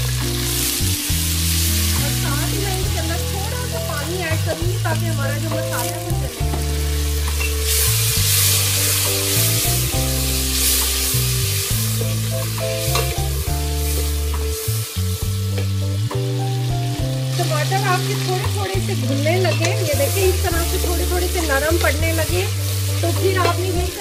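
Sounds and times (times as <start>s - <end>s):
music with long held notes: 0.0s - 24.0s
onions sizzling in oil: 0.0s - 24.0s.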